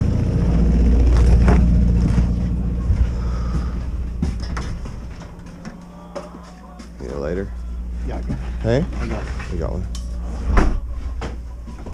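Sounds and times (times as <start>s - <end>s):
motor humming: 0.0s - 11.9s.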